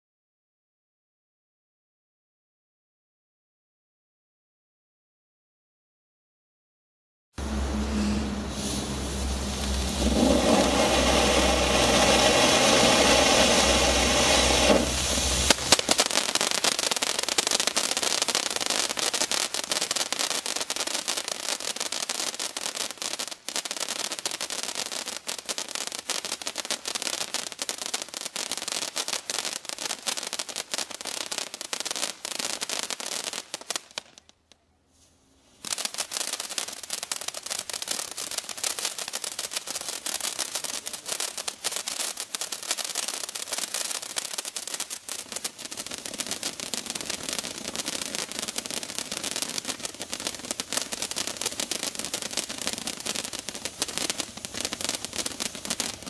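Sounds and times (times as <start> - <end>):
firework fountain spraying: 7.4 - 34.4, 35.4 - 56.0
crackle of sparks: 7.4 - 34.6, 35.5 - 56.0.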